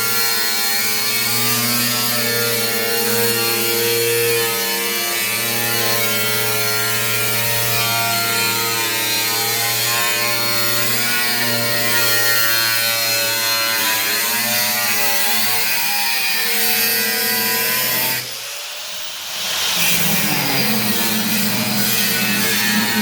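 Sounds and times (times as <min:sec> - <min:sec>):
power tool cutting steel: 0:00.0 - 0:23.0.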